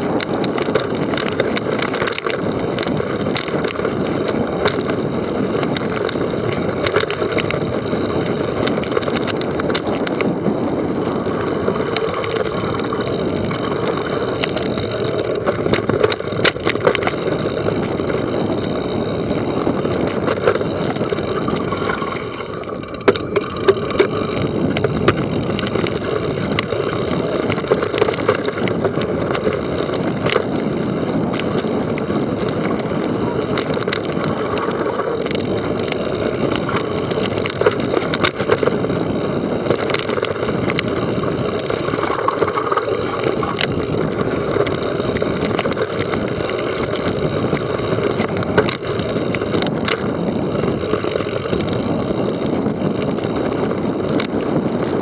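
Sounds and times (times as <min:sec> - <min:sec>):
bike clicking and rattling: 0:00.0 - 0:55.0
tyre and wind rush: 0:00.0 - 0:55.0.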